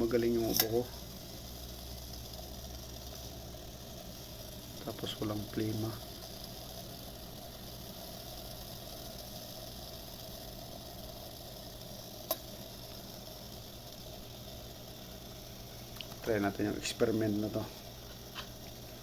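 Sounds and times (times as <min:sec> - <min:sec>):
pot simmering hiss: 0:00.0 - 0:19.0.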